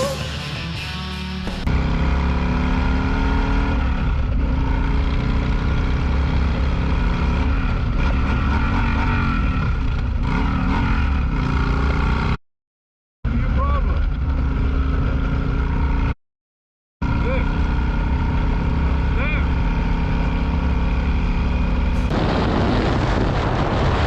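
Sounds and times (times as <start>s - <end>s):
motorcycle engine revving: 0.0s - 12.4s, 13.3s - 16.2s, 17.0s - 24.0s
wind and road noise: 1.4s - 12.4s, 13.3s - 16.2s, 17.0s - 24.0s.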